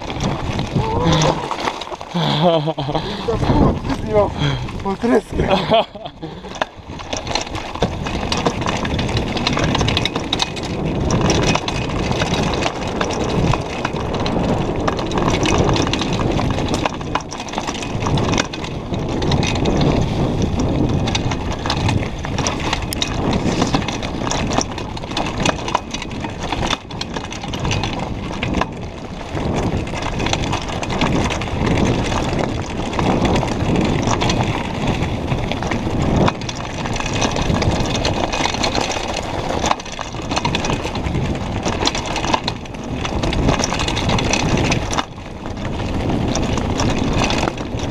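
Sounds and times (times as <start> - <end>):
bike rattling: 0.0 - 47.9
tyres crunching on gravel: 0.0 - 47.9.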